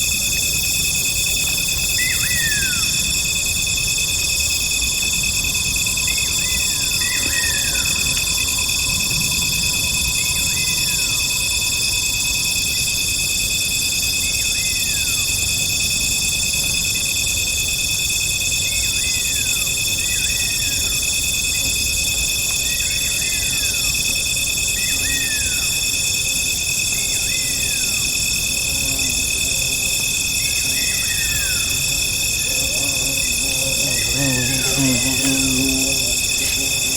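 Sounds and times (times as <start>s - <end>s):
insects trilling: 0.0s - 36.9s.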